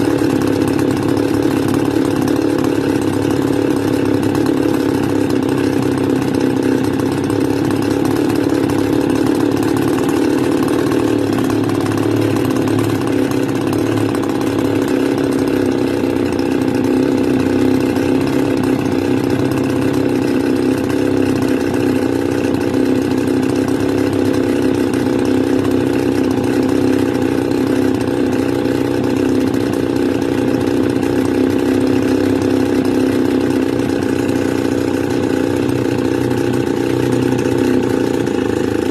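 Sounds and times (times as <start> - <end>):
brush cutter engine idling: 0.0 - 38.9.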